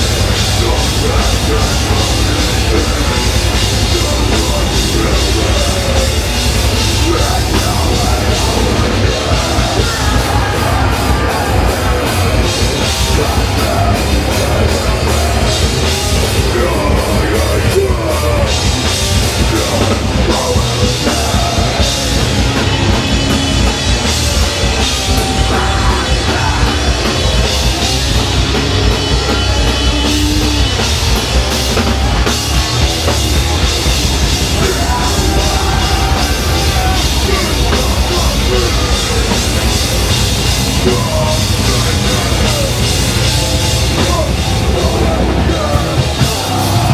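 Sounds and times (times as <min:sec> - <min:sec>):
bass guitar: 0:00.0 - 0:46.9
distorted electric guitars: 0:00.0 - 0:46.9
drum kit: 0:00.0 - 0:46.9.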